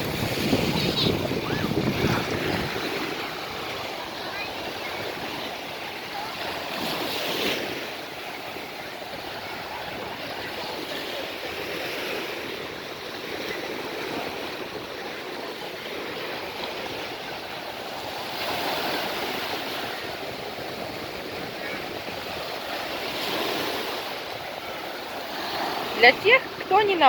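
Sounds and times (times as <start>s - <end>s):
sea waves washing onto shore: 0.0s - 27.0s.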